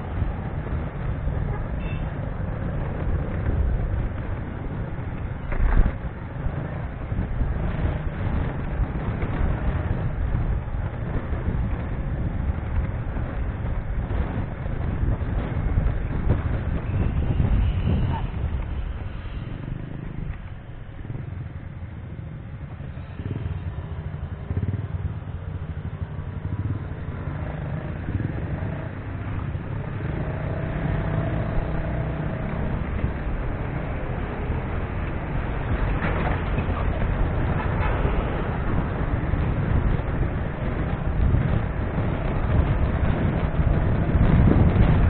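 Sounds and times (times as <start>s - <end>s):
motorcycle engine drone: 0.0s - 45.0s
passing traffic: 0.0s - 45.0s
wind rumbling on microphone: 0.0s - 45.0s.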